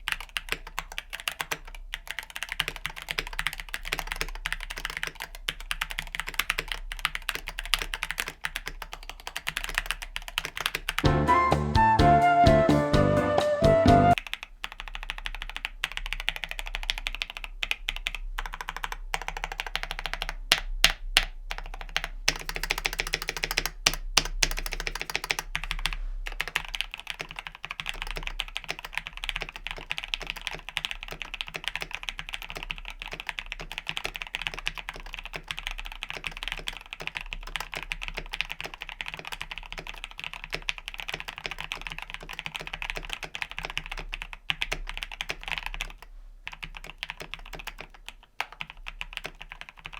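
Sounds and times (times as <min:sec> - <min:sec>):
typing on mechanical keyboard: 0:00.0 - 0:11.1, 0:14.1 - 0:49.9.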